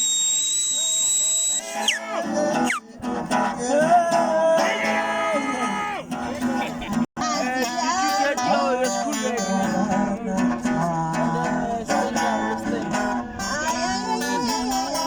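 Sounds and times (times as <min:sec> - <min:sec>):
acoustic guitar music: 0:01.6 - 0:15.0.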